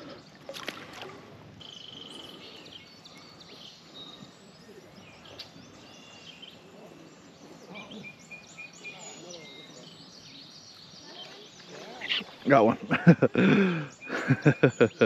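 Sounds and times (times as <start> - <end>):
birds chirping and calling: 0.0 - 15.0
outdoor ambient hiss: 0.0 - 15.0.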